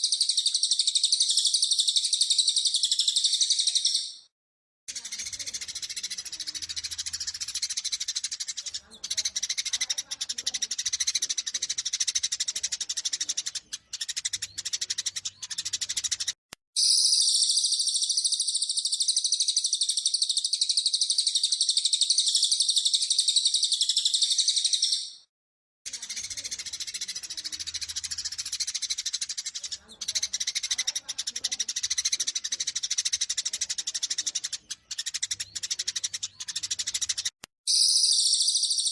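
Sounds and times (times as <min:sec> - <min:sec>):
high bird twittering: 0:00.0 - 0:04.3, 0:04.9 - 0:25.3, 0:25.9 - 0:38.9
sparrows chattering: 0:00.0 - 0:04.3, 0:04.9 - 0:25.3, 0:25.9 - 0:38.9.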